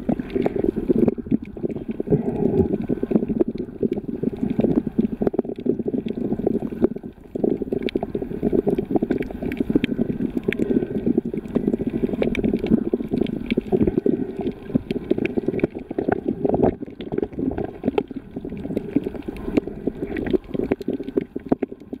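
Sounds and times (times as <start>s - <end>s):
muffled underwater rush: 0.0s - 22.0s.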